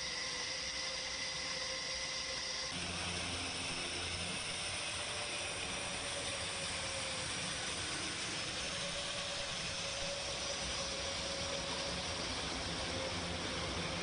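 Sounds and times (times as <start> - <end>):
turboprop engines running: 0.0 - 14.0.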